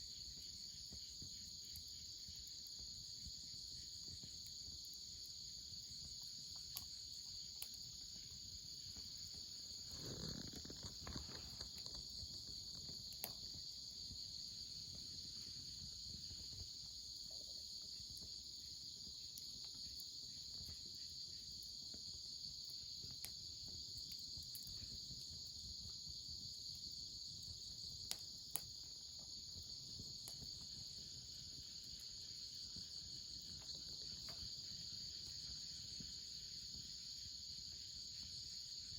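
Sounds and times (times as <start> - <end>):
insects chirring: 0.0 - 38.9
wood fire crackling: 0.1 - 36.9.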